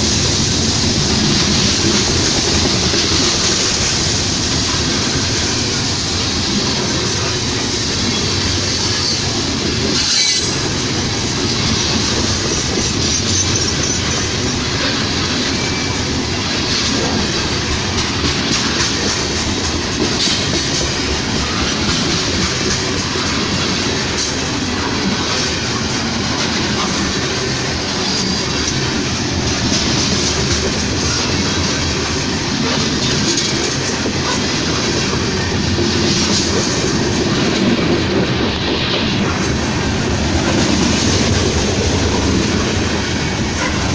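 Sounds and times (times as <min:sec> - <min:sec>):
train wheels rolling on rail: 0:00.0 - 0:43.9.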